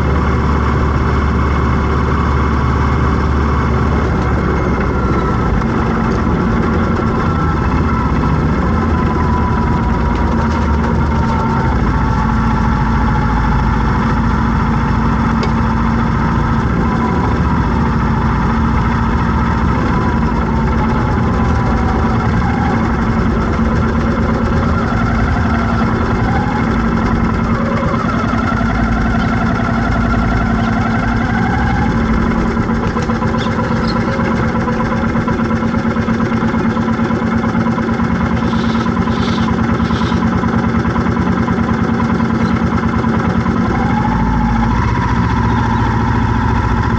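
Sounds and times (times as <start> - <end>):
vehicle engine humming: 0.0 - 46.9.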